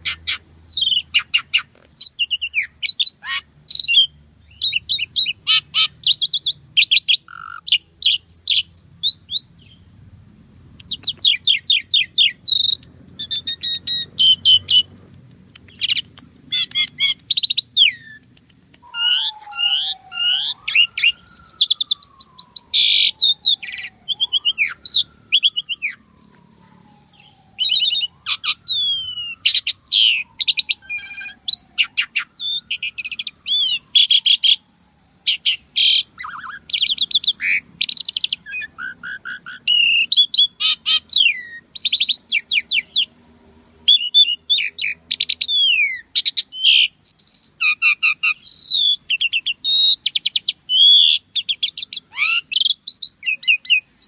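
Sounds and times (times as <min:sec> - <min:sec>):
starling singing: 0:00.0 - 0:09.9, 0:10.7 - 0:54.0.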